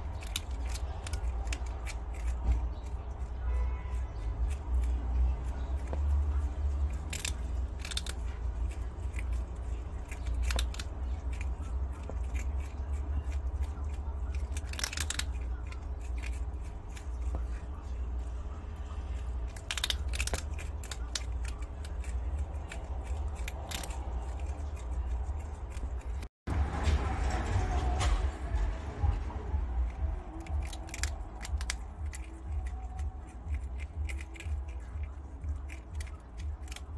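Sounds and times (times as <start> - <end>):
steady low hum: 0.0 - 3.5, 4.3 - 36.9
prairie dog crunching dry food: 0.0 - 26.3, 27.2 - 36.9.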